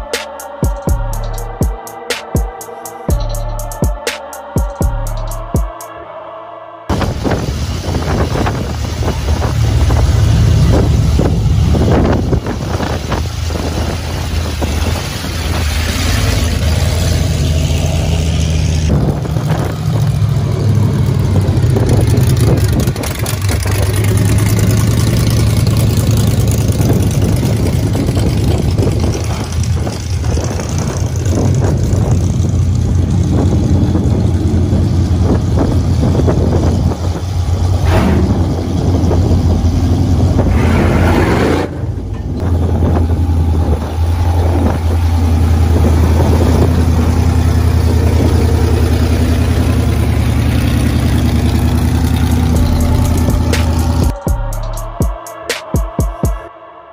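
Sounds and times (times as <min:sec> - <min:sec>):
monster truck engines droning: 0:00.0 - 0:01.6, 0:04.8 - 0:55.0.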